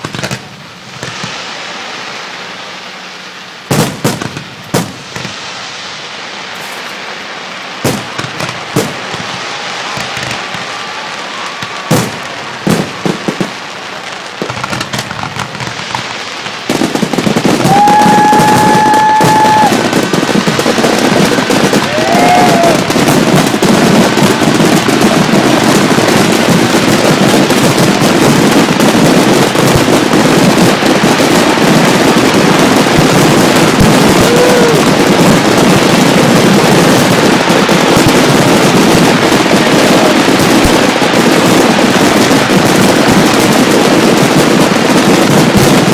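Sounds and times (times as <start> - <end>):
firework whistles: 0.0 - 45.9
fireworks bangs and crackling: 0.0 - 45.9.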